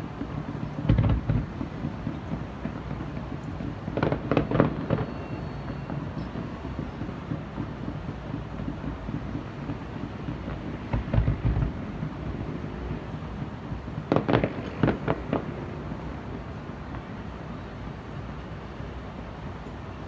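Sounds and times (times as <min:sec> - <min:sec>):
fireworks sharp cracks: 0:00.0 - 0:17.4
fireworks booming: 0:00.0 - 0:18.6.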